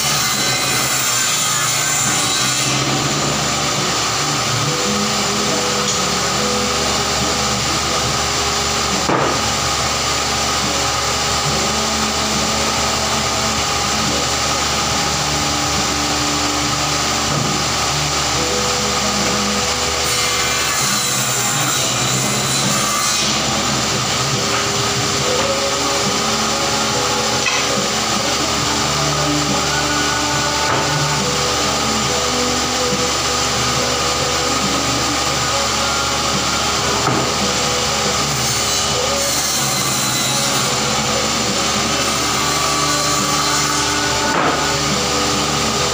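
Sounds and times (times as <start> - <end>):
power saw running: 0.0 - 45.9
workshop machinery noise: 0.0 - 45.9.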